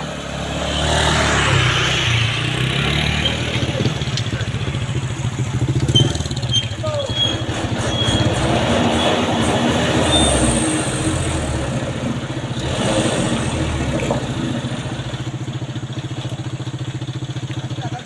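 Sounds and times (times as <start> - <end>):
diesel truck engine throbbing: 0.0 - 18.0.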